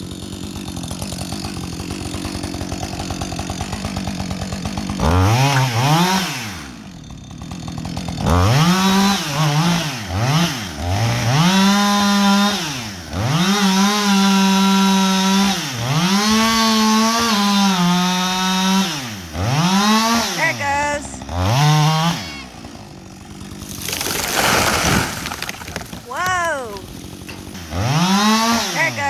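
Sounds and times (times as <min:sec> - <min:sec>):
chainsaw revving and idling: 0:00.0 - 0:29.0.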